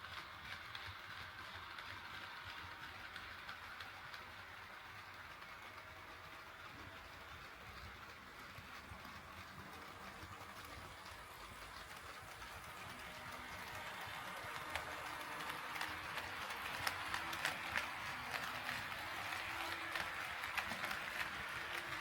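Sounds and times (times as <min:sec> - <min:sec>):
wheels clicking over track joints: 0:00.0 - 0:22.0.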